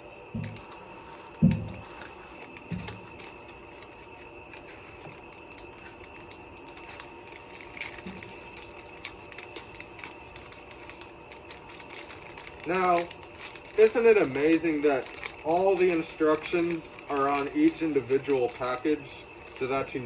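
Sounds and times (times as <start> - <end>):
packets clicking and crinkling: 0.0 - 20.0.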